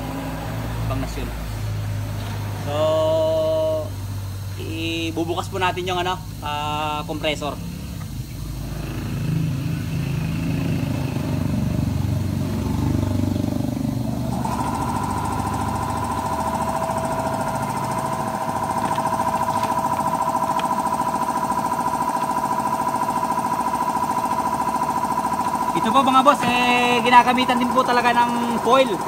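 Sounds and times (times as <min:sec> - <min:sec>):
air compressor running: 0:00.0 - 0:29.0
steady whine: 0:00.0 - 0:29.0.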